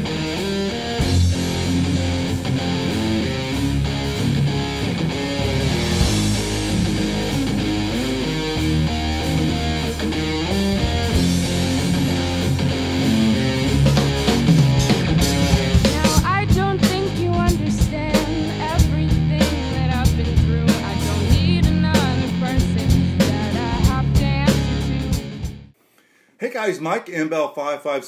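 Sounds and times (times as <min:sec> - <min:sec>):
rock music with electric guitar: 0:00.0 - 0:25.8.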